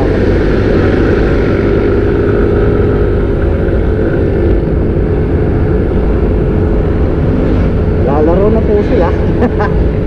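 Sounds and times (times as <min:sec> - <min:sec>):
scooter engine hum: 0:00.0 - 0:10.0
wind rumble on microphone: 0:00.0 - 0:10.0.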